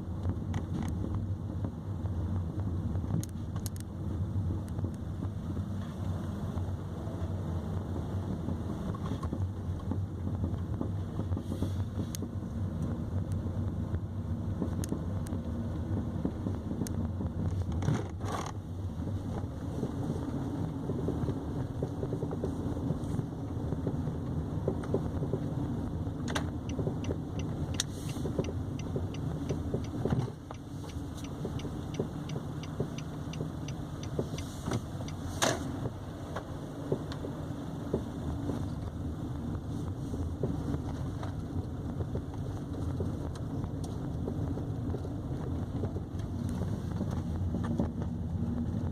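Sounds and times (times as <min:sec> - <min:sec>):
road and tyre rumble: 0:00.0 - 0:48.9.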